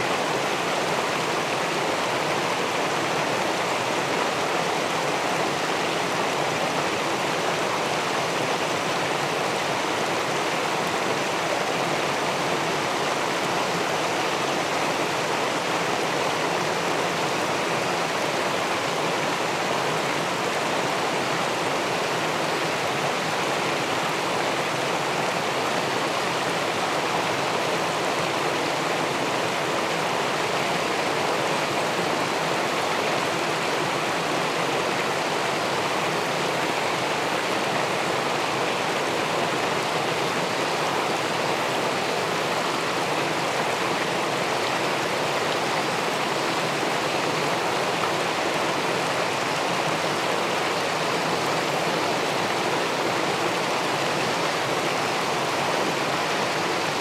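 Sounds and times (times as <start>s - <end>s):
river water rushing over weir: 0.0s - 57.0s.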